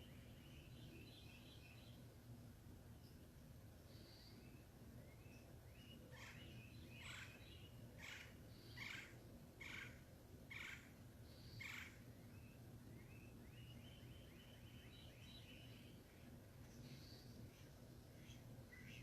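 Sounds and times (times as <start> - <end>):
faint rising bird chirps: 3.0 - 19.0.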